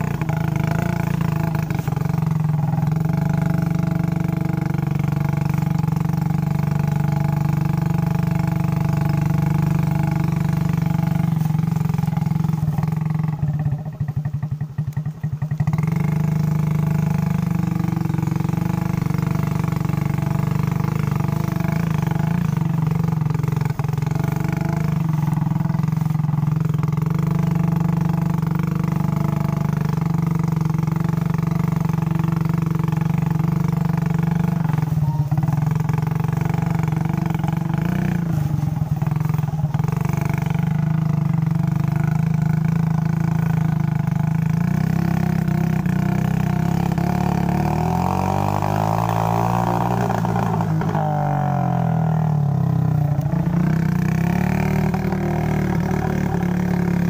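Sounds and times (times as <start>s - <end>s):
small motorcycle engine running: 0.0s - 57.0s.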